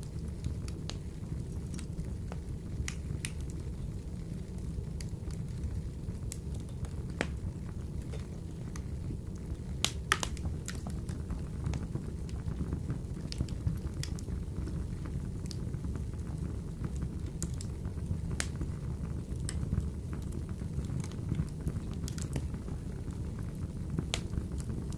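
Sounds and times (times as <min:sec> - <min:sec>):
fire crackling and popping: 0:00.0 - 0:24.9
fire rumbling in stove: 0:00.0 - 0:24.9.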